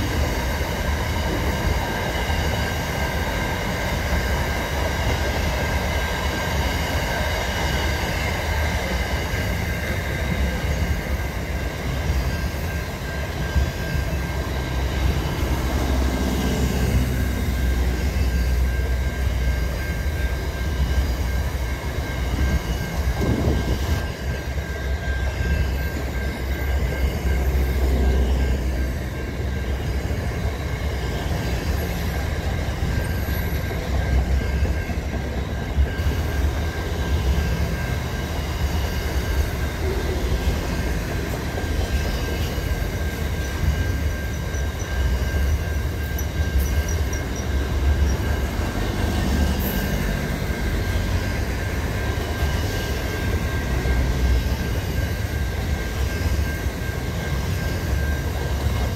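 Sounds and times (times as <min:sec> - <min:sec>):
high-pitched whine: 0:00.0 - 0:58.9
train wheels rumbling on rail: 0:00.0 - 0:58.9.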